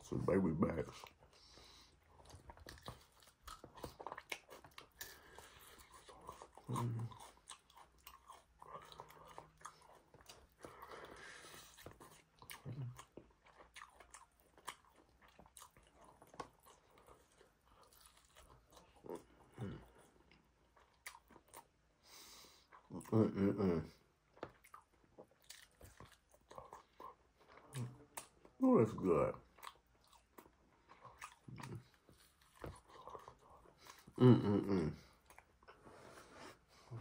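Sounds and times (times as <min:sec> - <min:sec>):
person chewing: 0:00.8 - 0:23.2, 0:24.2 - 0:28.6, 0:29.3 - 0:37.0.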